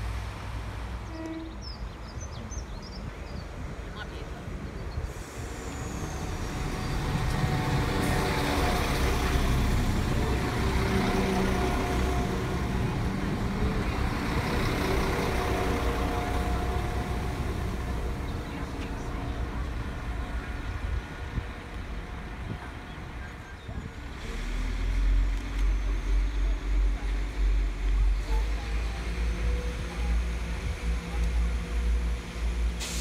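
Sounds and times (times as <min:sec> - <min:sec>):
diesel train engines: 0:00.0 - 0:33.0
train wheels on rails: 0:04.9 - 0:33.0.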